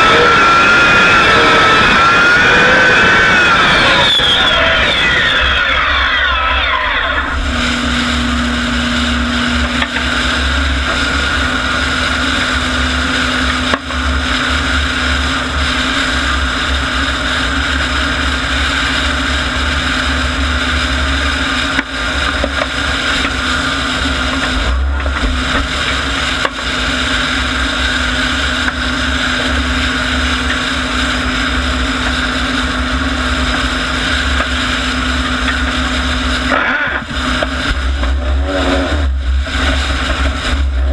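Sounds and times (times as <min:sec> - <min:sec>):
turbine engine whining: 0:00.0 - 0:40.9.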